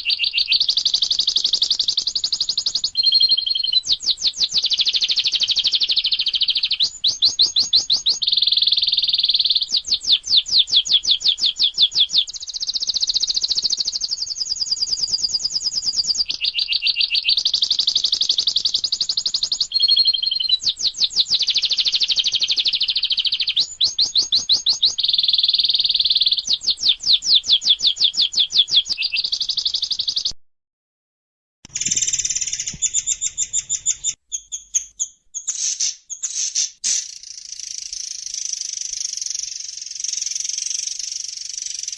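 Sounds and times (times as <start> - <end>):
songbird trilling: 0.0 - 30.3, 31.7 - 41.9.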